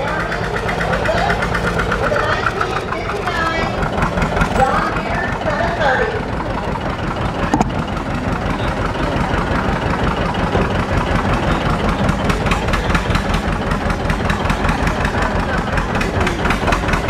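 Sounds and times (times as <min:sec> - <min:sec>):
tractor engine popping: 0:00.0 - 0:17.0.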